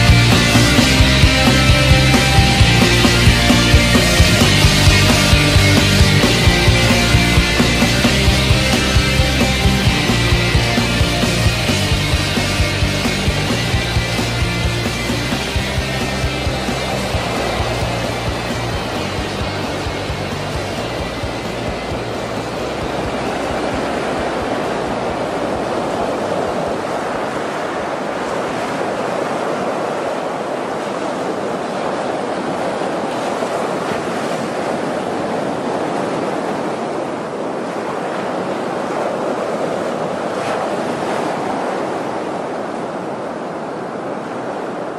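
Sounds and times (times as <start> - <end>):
steady rushing noise: 0.0 - 44.9.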